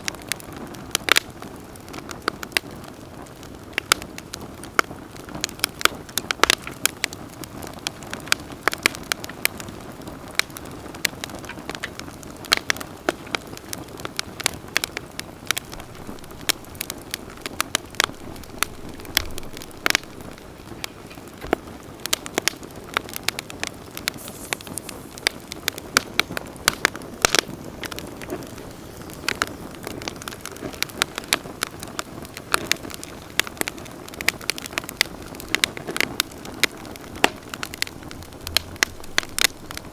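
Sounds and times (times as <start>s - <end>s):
campfire crackles and pops: 0.0s - 39.9s.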